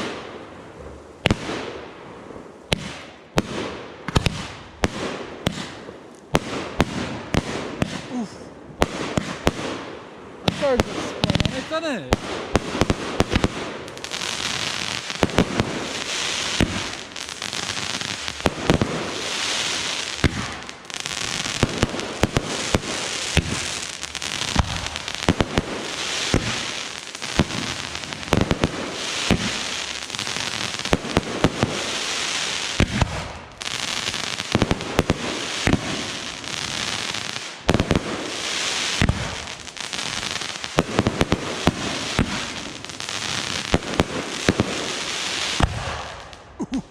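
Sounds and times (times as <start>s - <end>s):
fireworks bangs: 0.0s - 1.9s, 2.6s - 46.9s
fireworks crackling and hissing: 0.0s - 46.9s.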